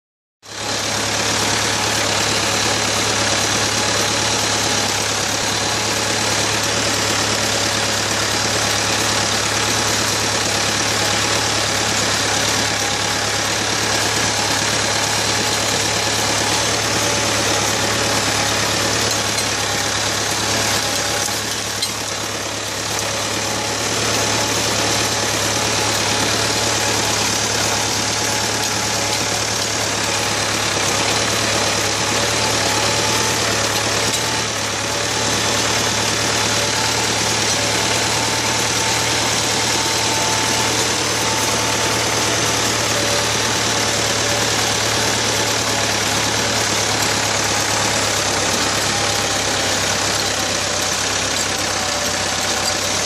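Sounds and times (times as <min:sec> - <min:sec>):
tractor engine under load: 0:00.4 - 0:53.0.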